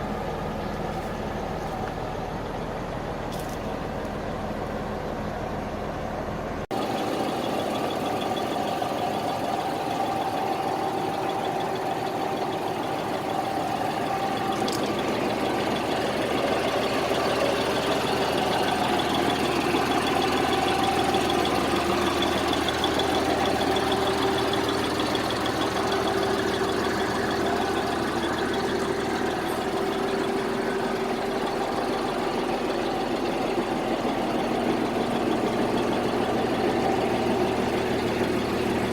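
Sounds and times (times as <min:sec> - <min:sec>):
diesel bus engine idling: 0:00.0 - 0:38.9.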